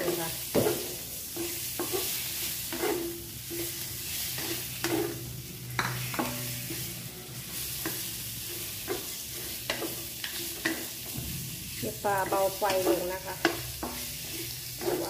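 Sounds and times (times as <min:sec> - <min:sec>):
fish sizzling in hot oil: 0:00.0 - 0:15.0
wooden spatula scraping wok: 0:00.0 - 0:15.0.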